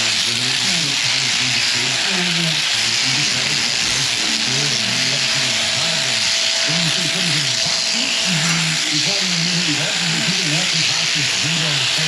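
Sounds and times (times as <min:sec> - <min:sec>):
electric shears buzzing: 0:00.0 - 0:12.0
low wavering sounds: 0:00.0 - 0:12.0.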